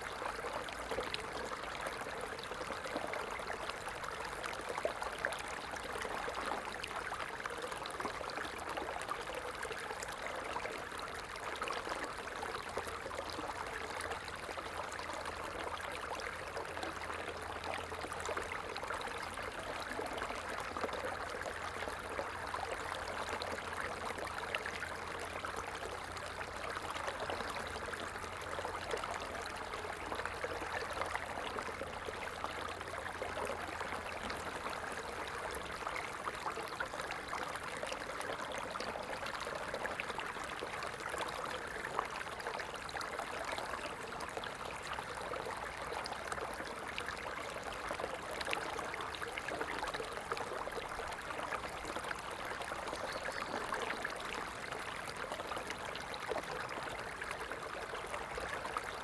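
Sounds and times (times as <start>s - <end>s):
stream flowing with splashes: 0.0s - 59.0s.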